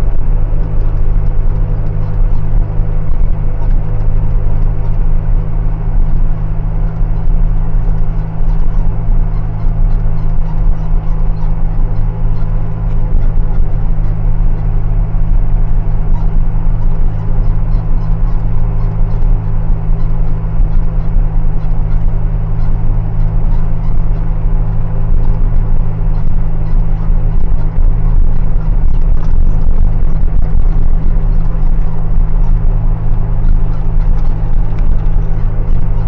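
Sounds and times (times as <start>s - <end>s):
engine droning: 0.0s - 36.0s.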